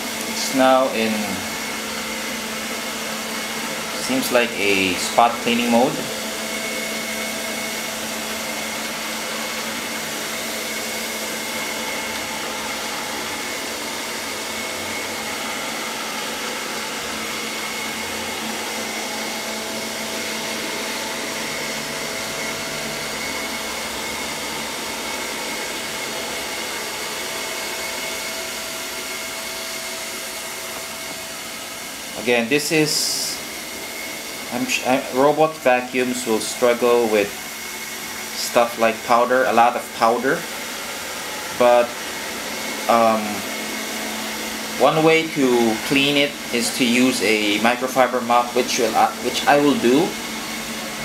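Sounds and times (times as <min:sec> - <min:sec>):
robot vacuum fan hissing and whining: 0:00.0 - 0:51.0.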